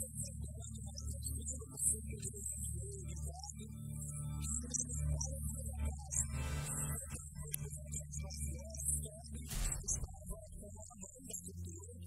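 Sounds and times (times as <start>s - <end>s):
background music with low drone: 0.0s - 12.0s.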